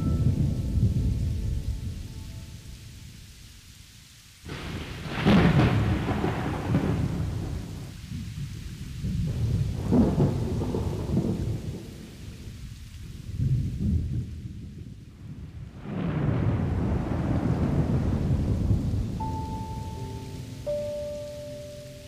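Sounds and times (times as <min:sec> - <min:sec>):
thunder rumbling: 0:00.0 - 0:03.6, 0:04.5 - 0:22.0
rain: 0:00.0 - 0:22.0.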